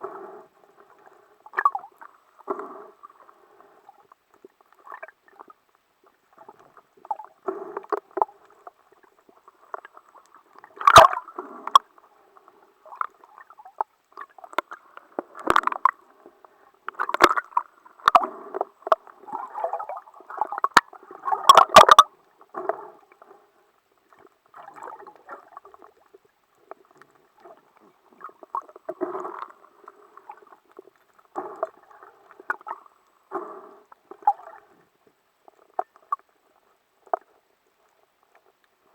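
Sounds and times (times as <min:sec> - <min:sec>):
underwater bubbling and sloshing: 0:00.0 - 0:38.9.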